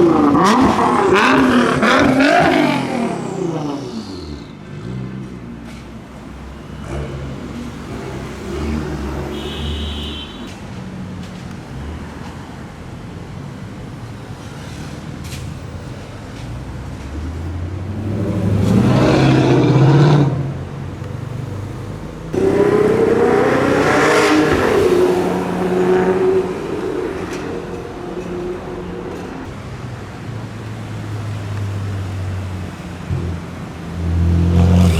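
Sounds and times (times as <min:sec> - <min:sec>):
sports car engines accelerating: 0:00.0 - 0:09.6, 0:11.3 - 0:34.9.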